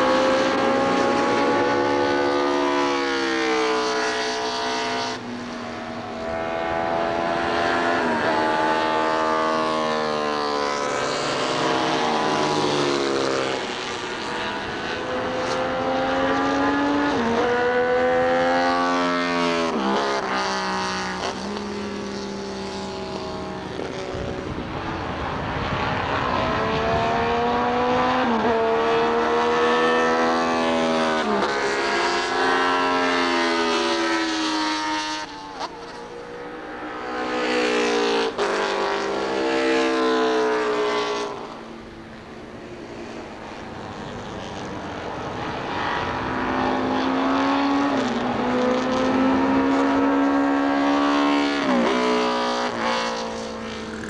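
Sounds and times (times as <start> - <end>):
racing motorcycle engine revving: 0.0 - 41.9, 43.4 - 54.0.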